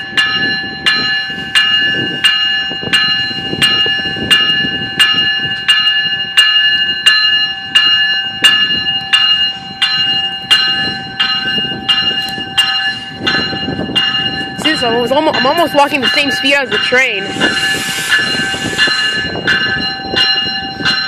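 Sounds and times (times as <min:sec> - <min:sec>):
low rumble of train: 0:00.0 - 0:21.0
train warning bell ringing: 0:00.0 - 0:21.0.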